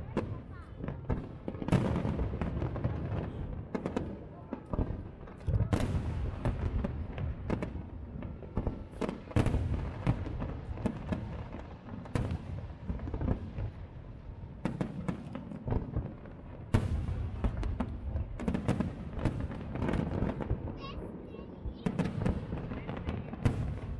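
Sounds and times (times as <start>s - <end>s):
fireworks bangs and crackle: 0.0s - 23.9s.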